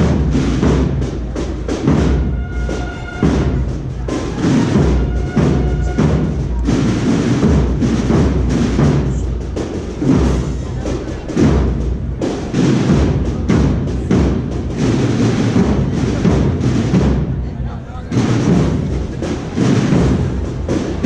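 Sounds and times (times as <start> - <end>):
procession band music: 0.0 - 17.2, 18.1 - 21.0
heavy drum beats: 0.0 - 21.0.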